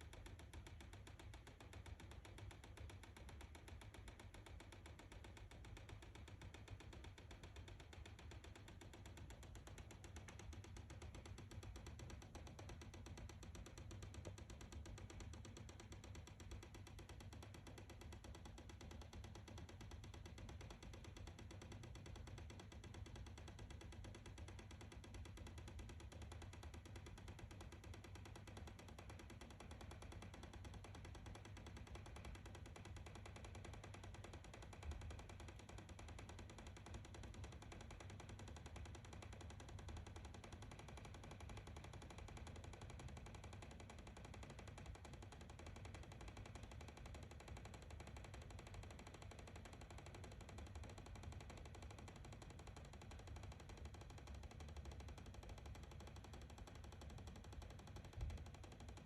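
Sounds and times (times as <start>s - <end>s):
faint rapid clicking in wall: 0.0s - 59.0s.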